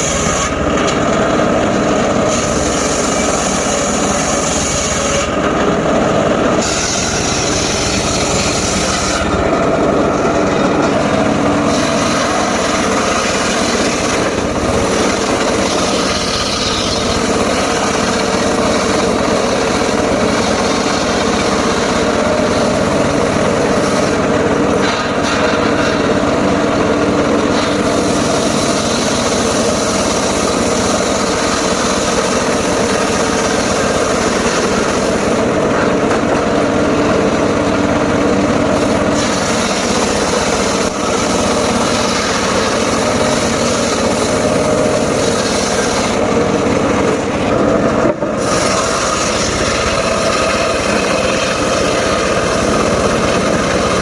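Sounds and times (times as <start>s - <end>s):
sawmill blade cutting timber: 0.0s - 54.0s.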